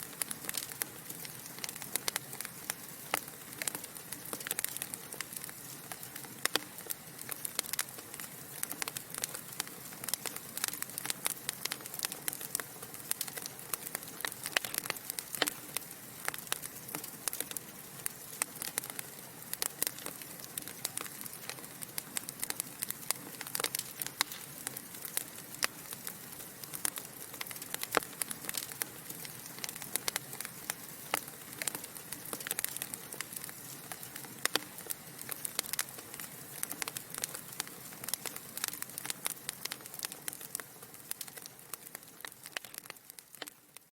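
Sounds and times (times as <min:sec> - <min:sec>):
soft steady hiss: 0:00.0 - 0:43.9
wood fire crackling and popping: 0:00.0 - 0:43.9.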